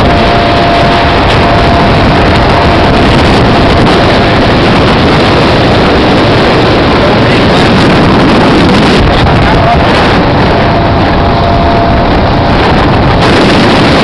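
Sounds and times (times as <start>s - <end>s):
speedboat engine and rushing water: 0.0s - 14.0s.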